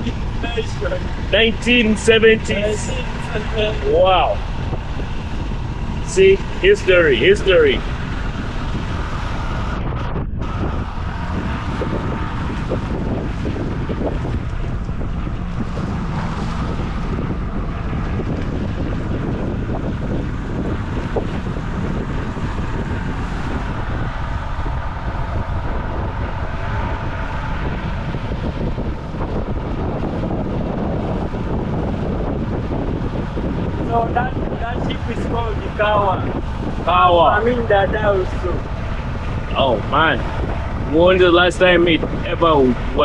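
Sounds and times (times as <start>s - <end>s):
motorboat motor droning: 0.0s - 43.0s
wind buffeting microphone: 0.0s - 43.0s.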